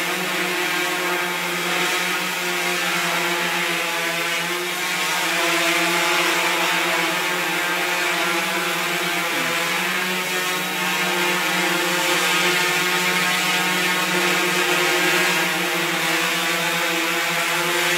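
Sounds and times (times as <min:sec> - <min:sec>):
quadcopter hovering hum: 0:00.0 - 0:17.9.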